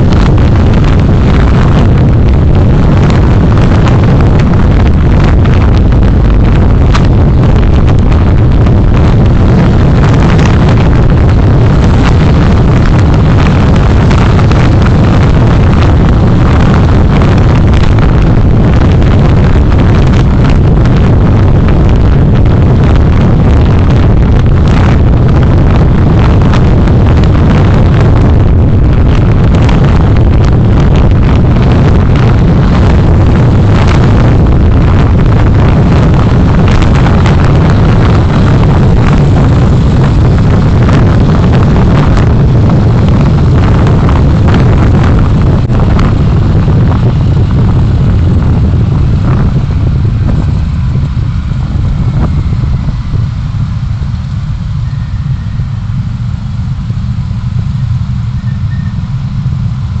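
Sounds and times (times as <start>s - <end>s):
vehicle rumble of engine and tyres: 0.0s - 60.0s.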